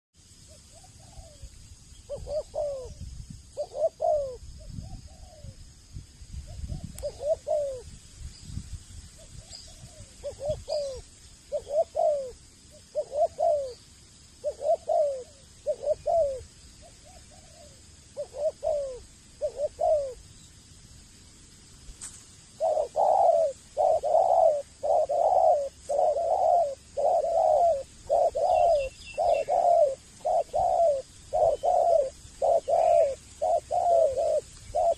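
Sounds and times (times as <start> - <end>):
dove cooing: 0.5 - 1.5, 2.1 - 3.0, 3.6 - 5.6, 6.5 - 7.9, 9.3 - 13.8, 14.4 - 20.2, 22.6 - 34.9.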